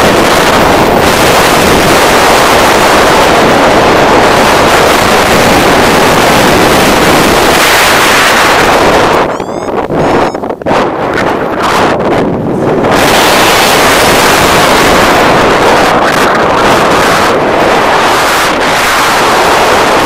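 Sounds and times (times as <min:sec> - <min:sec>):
wind roar on microphone: 0:00.0 - 0:20.0.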